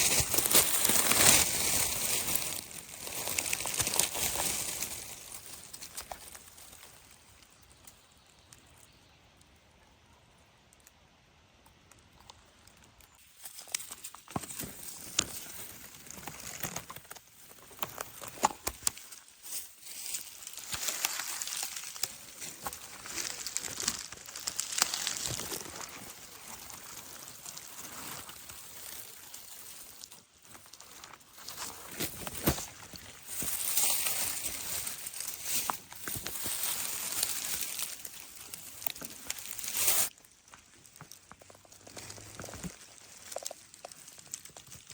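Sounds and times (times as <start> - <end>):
footsteps crunching dry leaves: 0.0 - 7.5, 13.2 - 44.9.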